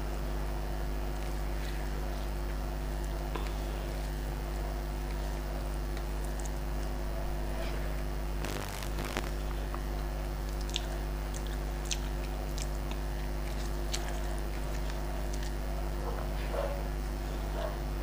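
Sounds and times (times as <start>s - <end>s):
low hum: 0.0s - 18.0s
soft wet chewing: 1.0s - 8.3s, 9.1s - 18.0s.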